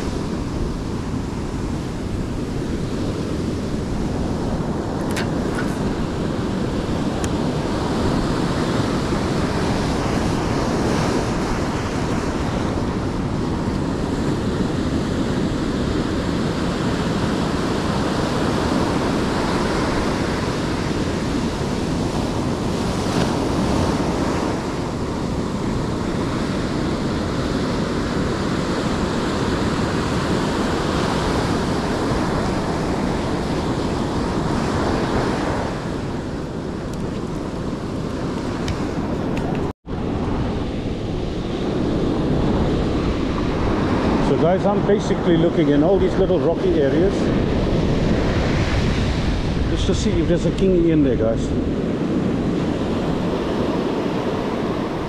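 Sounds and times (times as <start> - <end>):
ocean surf washing in: 0.0 - 55.0
wind buffeting microphone: 0.0 - 55.0.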